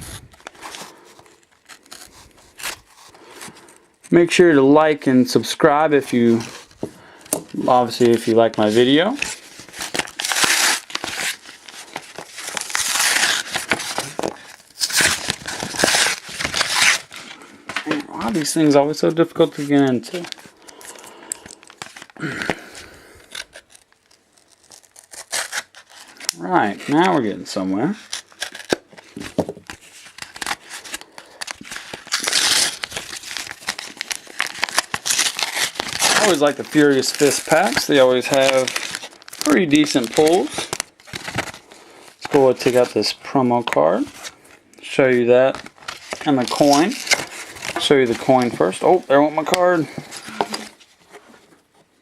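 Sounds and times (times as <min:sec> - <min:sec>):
plastic blister packaging crinkling: 0:00.0 - 0:04.1, 0:06.0 - 0:27.2, 0:28.0 - 0:51.9.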